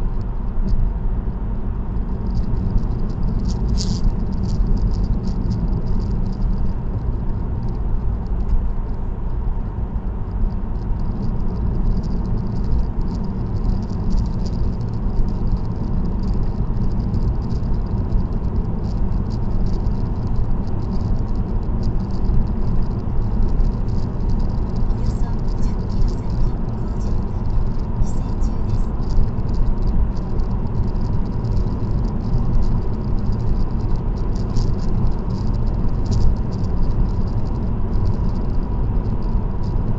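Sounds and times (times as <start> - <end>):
road and tyre noise inside car: 0.0 - 39.9
light fast rattle: 2.0 - 9.0, 10.4 - 39.9.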